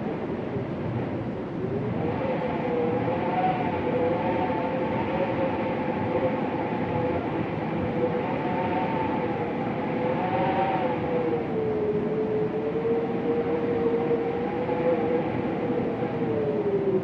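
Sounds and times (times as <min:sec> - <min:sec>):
wind moaning and howling: 0:00.0 - 0:17.0.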